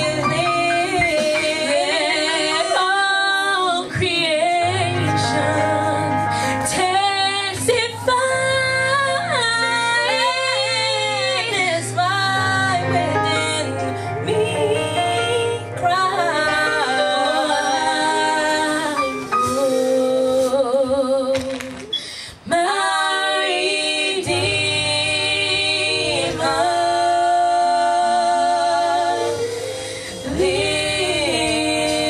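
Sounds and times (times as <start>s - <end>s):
instrumental backing: 0.0s - 21.9s, 23.2s - 32.0s
women singing gospel: 0.0s - 32.0s.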